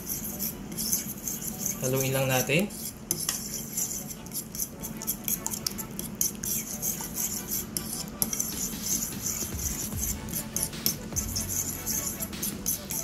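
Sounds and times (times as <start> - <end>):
utensil clinking and scraping bowl: 0.0 - 13.0.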